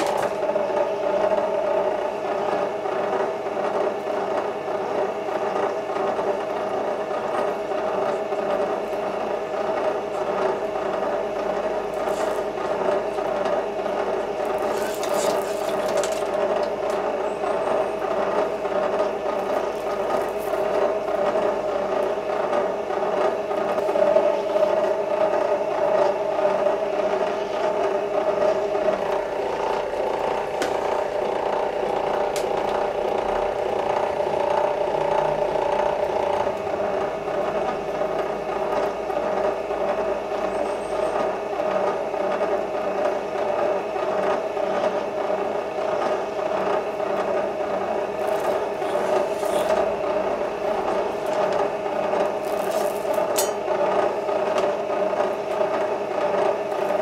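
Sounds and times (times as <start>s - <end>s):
wire stripping machine whirring: 0.0s - 57.0s.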